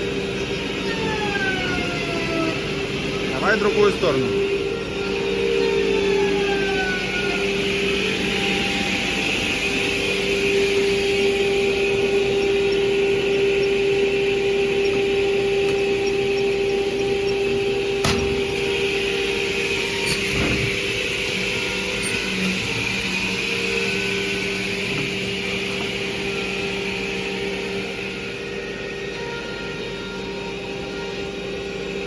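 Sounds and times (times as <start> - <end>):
edge banding machine running: 0.0 - 32.0.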